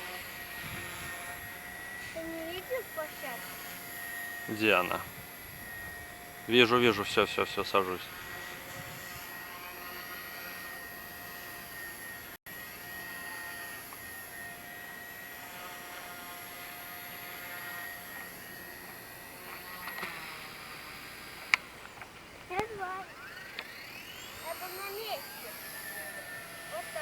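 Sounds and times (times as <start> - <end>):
rc helicopter motor whine: 0.0 - 27.0.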